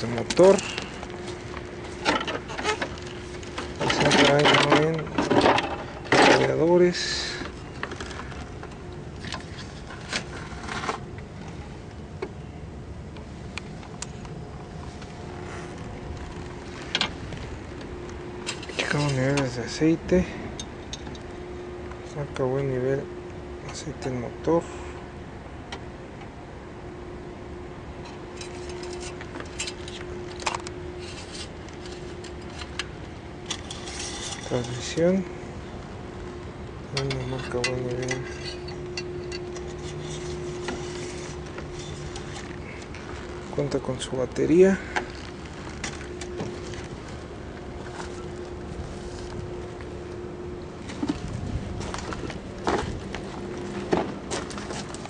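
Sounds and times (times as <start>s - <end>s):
low steady background rumble: 0.0s - 55.0s
steady hum: 0.0s - 55.0s.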